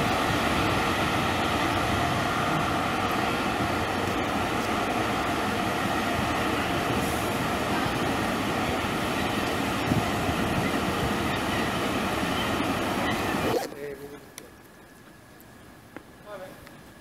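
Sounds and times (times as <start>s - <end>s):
electric locomotive running slowly: 0.0s - 17.0s.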